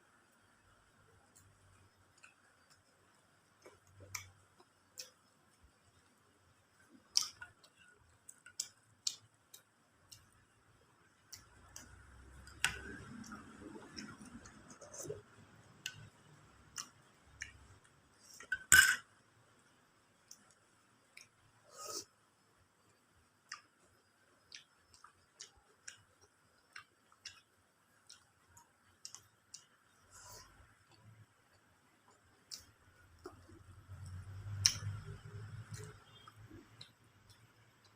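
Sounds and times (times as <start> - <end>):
person chewing food: 1.3 - 18.4, 22.9 - 37.9.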